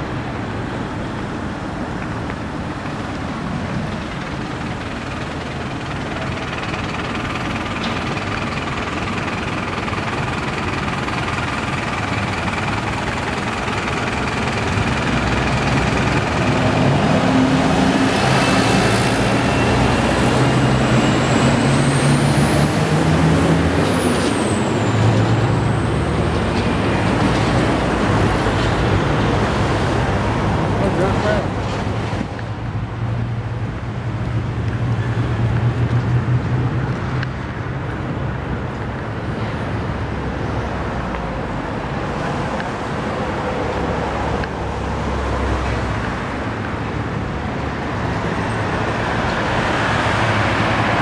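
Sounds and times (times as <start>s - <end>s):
heavy vehicle passing: 0.0s - 51.0s
road traffic: 0.0s - 51.0s.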